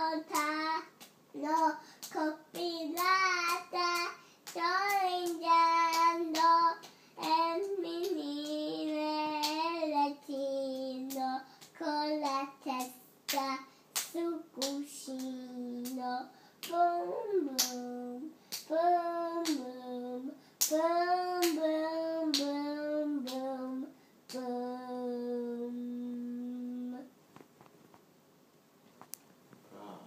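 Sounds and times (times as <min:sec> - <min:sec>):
child singing: 0:00.0 - 0:27.1.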